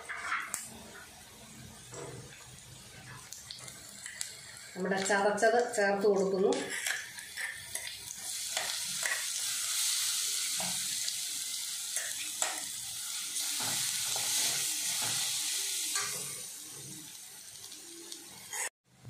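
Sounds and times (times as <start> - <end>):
food sizzling in hot oil: 0.0 - 18.7.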